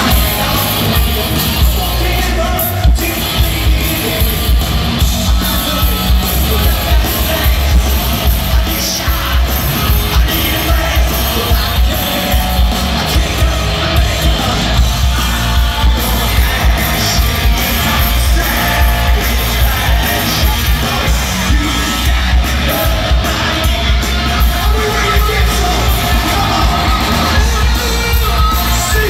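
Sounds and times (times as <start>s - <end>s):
live hard rock band: 0.0s - 29.0s
man singing: 0.0s - 29.0s.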